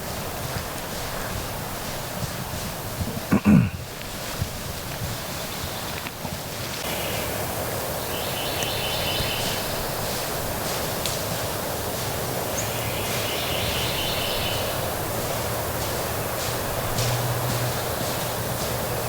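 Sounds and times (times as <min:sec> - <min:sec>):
wind through woods: 0:00.0 - 0:19.0.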